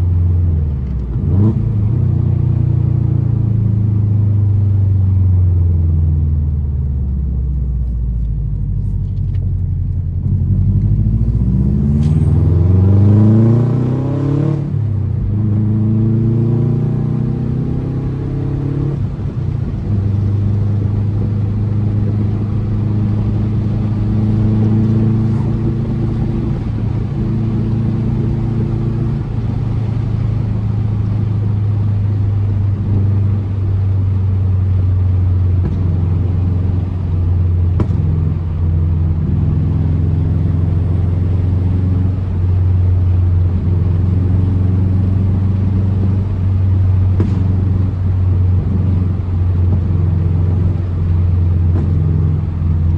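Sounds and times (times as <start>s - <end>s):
car engine and exhaust running: 0.0s - 52.9s.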